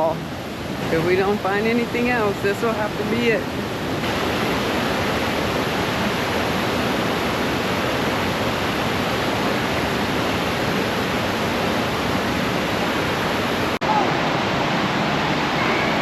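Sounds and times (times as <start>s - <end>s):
water rushing over creek cascade: 0.0s - 16.0s.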